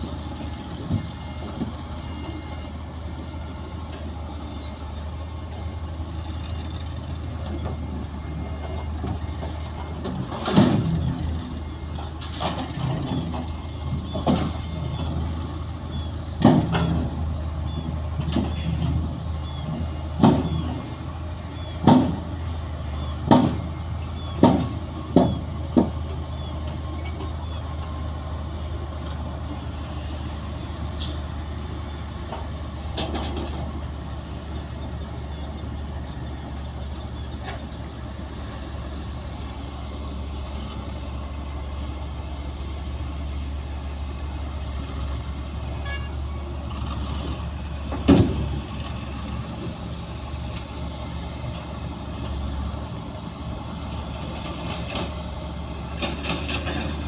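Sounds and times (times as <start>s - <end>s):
heavy machinery diesel engine droning: 0.0s - 57.0s.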